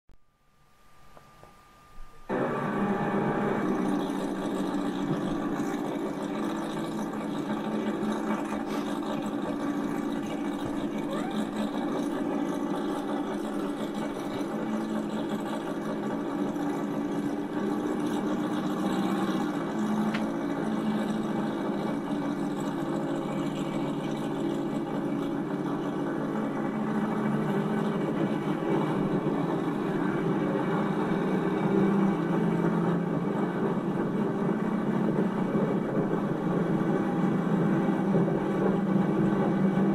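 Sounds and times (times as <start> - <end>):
car engine idling: 2.0 - 39.9.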